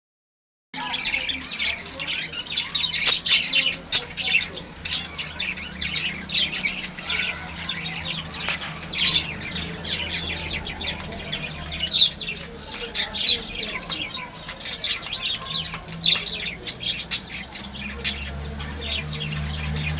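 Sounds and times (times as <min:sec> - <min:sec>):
birds chirping and squawking: 0:00.8 - 0:19.9.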